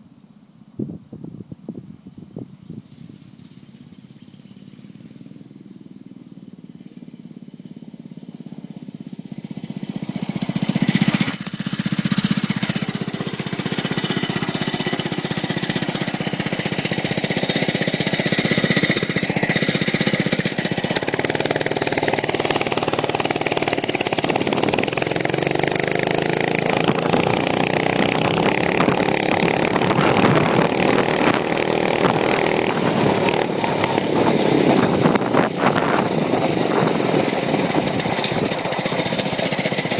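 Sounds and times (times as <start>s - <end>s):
mini bike engine running: 2.4s - 39.9s.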